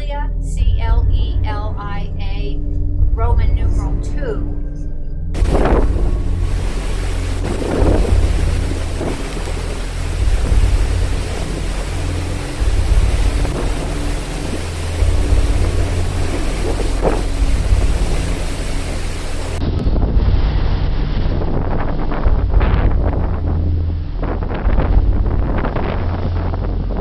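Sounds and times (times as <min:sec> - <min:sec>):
heavy seas breaking along hull: 0:05.4 - 0:27.0
wind buffeting microphone: 0:05.4 - 0:27.0.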